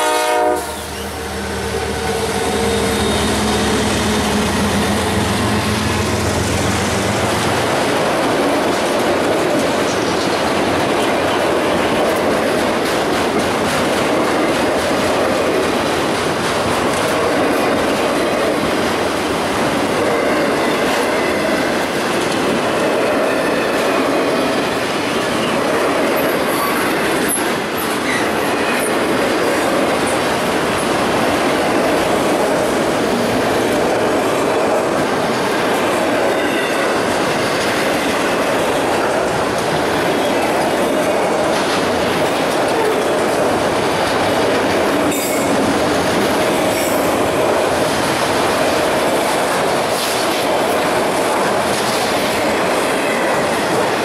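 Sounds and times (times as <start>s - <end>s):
freight train rolling past: 0.0s - 54.0s
steel wheels clicking over rails: 2.4s - 54.0s.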